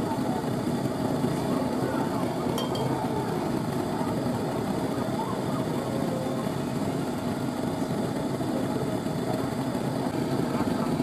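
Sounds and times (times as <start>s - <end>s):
gas burner flame rushing: 0.0s - 11.0s.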